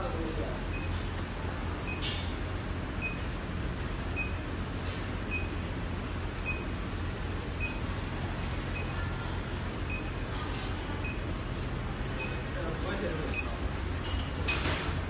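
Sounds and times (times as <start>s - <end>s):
machine electrical hum with hiss: 0.0s - 15.0s.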